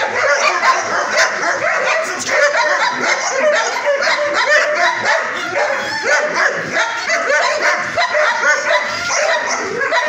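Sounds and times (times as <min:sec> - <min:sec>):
dogs barking and yipping: 0:00.0 - 0:10.0.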